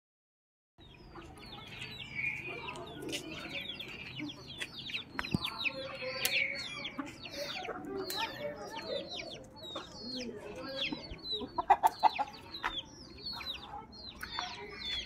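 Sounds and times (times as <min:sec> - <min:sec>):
chicks peeping: 0:00.8 - 0:15.0
hens clucking: 0:00.8 - 0:15.0.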